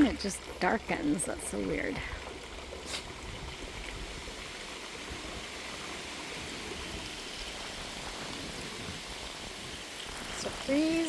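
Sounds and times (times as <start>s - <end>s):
wind buffeting microphone: 0.0s - 11.0s
wind hiss: 1.9s - 11.0s.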